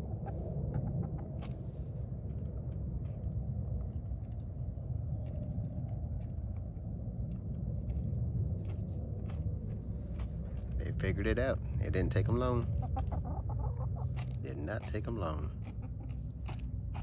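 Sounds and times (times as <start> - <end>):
hens pecking plastic feeder: 0.0 - 17.0
steady low rumble: 0.0 - 17.0.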